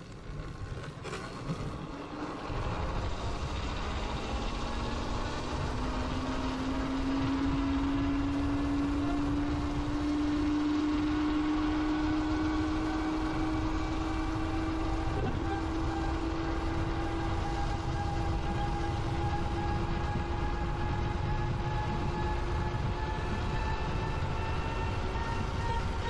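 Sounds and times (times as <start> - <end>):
motorbike whine rising in pitch: 0.0 - 26.0.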